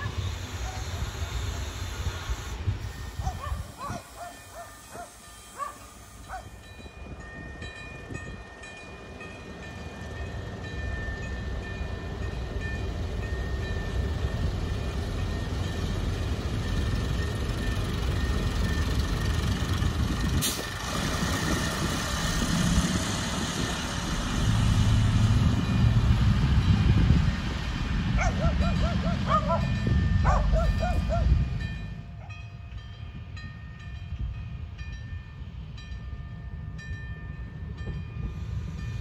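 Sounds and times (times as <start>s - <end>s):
diesel railcar engine rumble: 0.0s - 39.0s.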